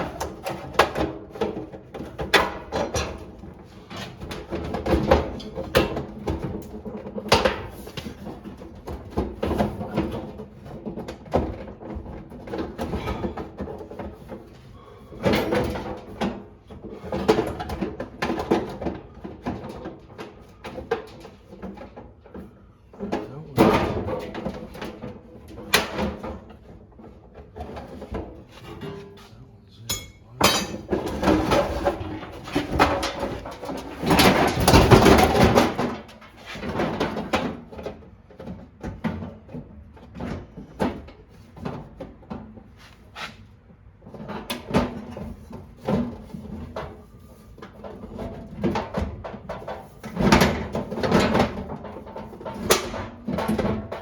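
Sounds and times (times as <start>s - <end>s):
tools and parts clattering: 0.0s - 29.3s, 29.9s - 43.2s, 44.0s - 54.0s.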